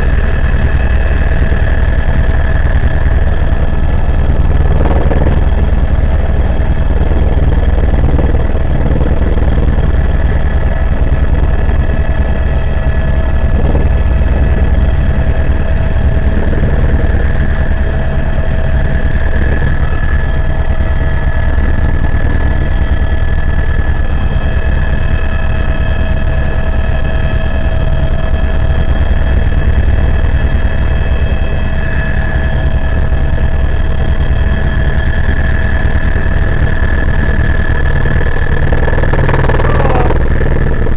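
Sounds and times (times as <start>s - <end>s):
helicopter rotor and engine drone: 0.0s - 40.9s
high-pitched turbine whine: 0.0s - 40.9s.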